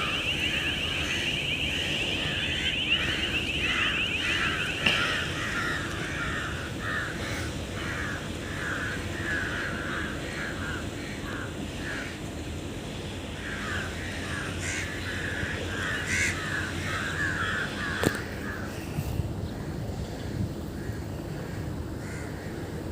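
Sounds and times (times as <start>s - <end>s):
birds calling harshly: 0.0s - 22.6s.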